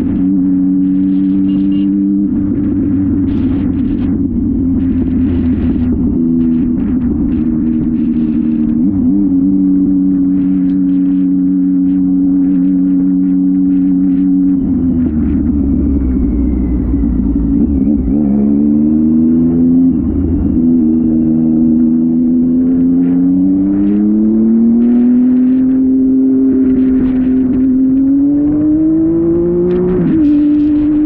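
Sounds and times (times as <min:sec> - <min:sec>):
motorcycle engine under throttle: 0:00.0 - 0:31.0.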